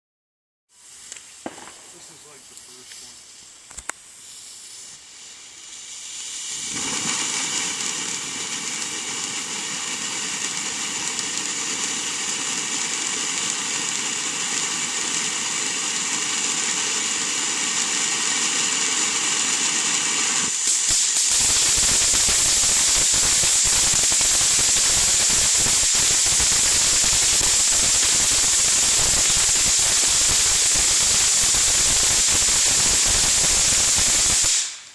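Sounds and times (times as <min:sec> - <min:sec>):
firework fountain hissing: 0:00.7 - 0:34.9
dense crackling: 0:01.0 - 0:34.9.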